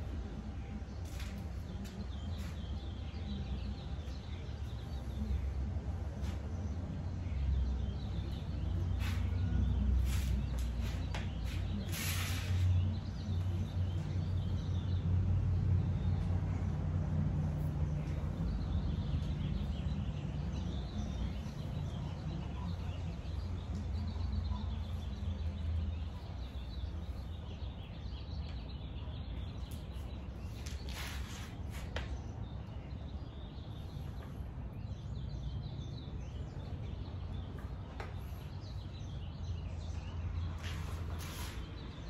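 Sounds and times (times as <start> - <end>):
birds chirping: 0.0 - 16.8, 17.4 - 42.0.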